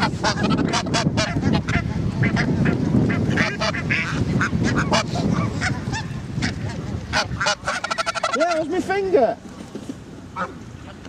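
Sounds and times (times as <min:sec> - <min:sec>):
geese honking: 0:00.0 - 0:08.8, 0:10.3 - 0:11.0
ducks quacking: 0:00.0 - 0:09.0, 0:10.3 - 0:11.0.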